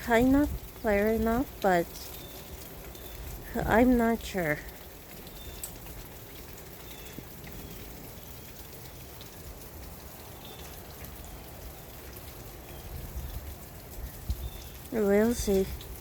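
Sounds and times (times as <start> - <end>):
rain falling: 0.0 - 16.0
sharp drips: 0.0 - 16.0.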